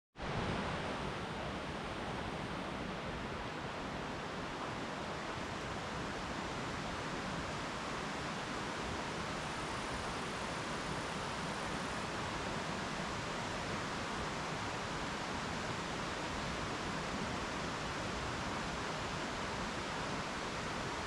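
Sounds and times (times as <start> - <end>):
stream rushing over rocks: 0.2 - 21.0.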